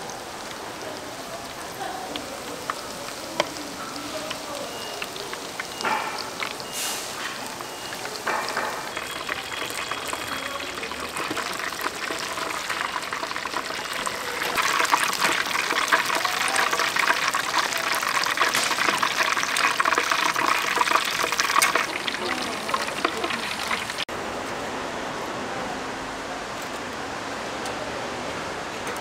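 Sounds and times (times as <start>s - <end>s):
food deep-frying in hot oil: 0.0s - 24.1s.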